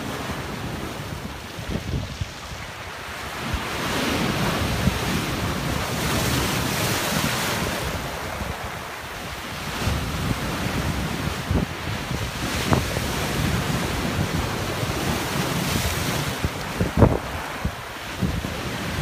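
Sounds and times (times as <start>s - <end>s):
waves crashing on boulders: 0.0s - 19.0s
wind buffeting microphone: 0.0s - 19.0s.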